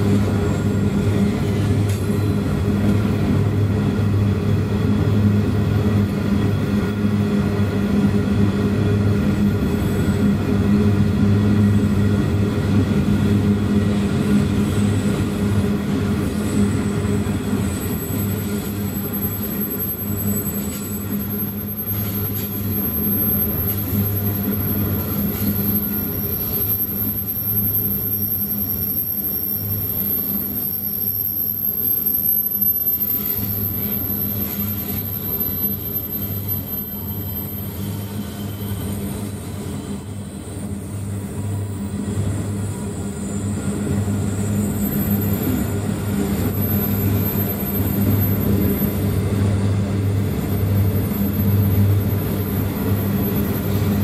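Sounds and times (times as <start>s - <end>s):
train wagons rolling on rails: 0.0s - 54.0s.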